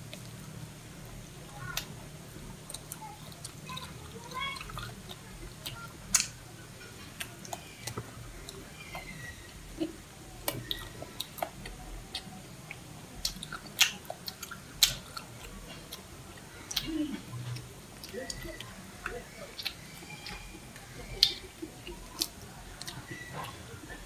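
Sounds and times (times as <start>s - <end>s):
wet chewing clicks and smacks: 0.0s - 2.0s, 2.6s - 24.0s.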